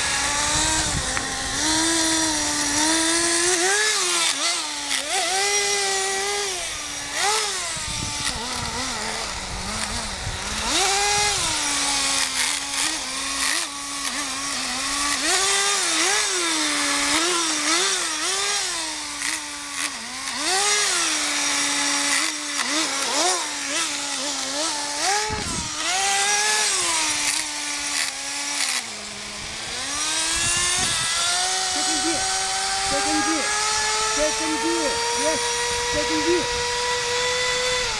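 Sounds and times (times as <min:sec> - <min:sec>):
nitro engine revving: 0:00.0 - 0:37.9.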